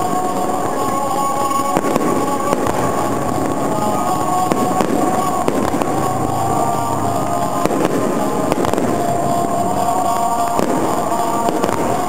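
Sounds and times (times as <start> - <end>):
fireworks barrage: 0.0 - 12.0
fireworks sharp bangs: 0.0 - 12.0.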